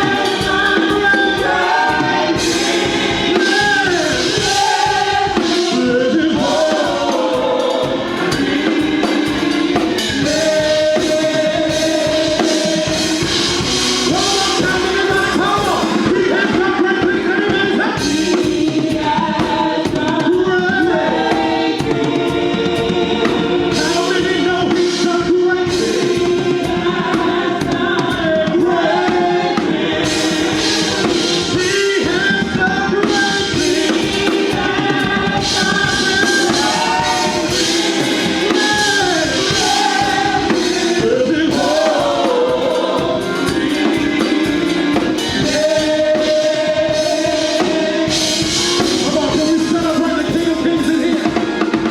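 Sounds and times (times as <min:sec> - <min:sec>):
drum kit beat: 0:00.0 - 0:51.9
singers with a band: 0:00.0 - 0:51.9.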